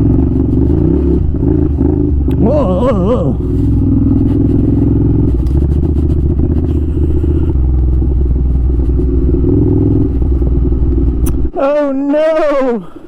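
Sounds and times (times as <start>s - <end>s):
motorcycle engine at low revs: 0.0s - 11.6s.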